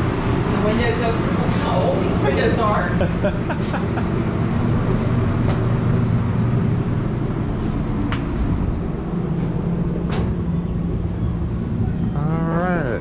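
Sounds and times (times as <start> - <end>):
train machinery rumble and hum: 0.0 - 13.0.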